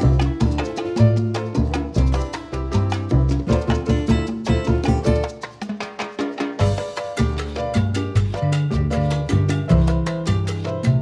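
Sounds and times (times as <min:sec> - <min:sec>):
upbeat latin music: 0:00.0 - 0:11.0.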